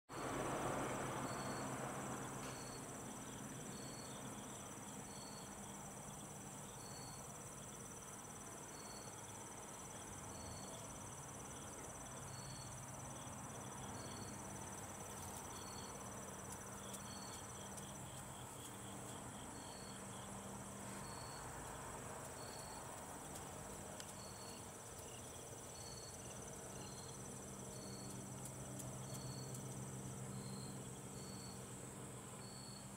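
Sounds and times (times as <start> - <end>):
cricket chirps: 0.1 - 32.9
high-pitched insect trill: 0.1 - 32.9
hiss-like insect trill: 0.2 - 32.9.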